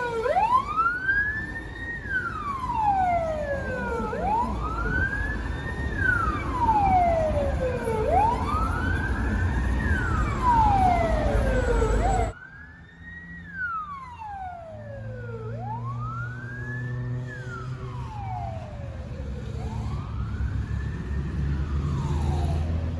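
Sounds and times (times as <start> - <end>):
ambulance siren wailing: 0.0 - 22.9
traffic and engine noise: 0.0 - 22.9.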